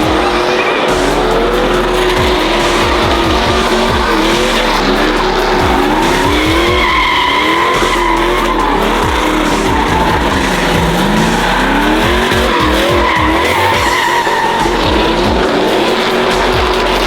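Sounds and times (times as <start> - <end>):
tires spinning on pavement: 0.0 - 17.0
truck engine revving: 0.0 - 17.0.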